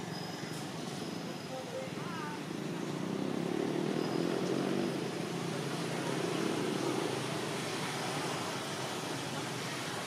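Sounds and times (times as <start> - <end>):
distant traffic rumble: 0.0 - 10.0.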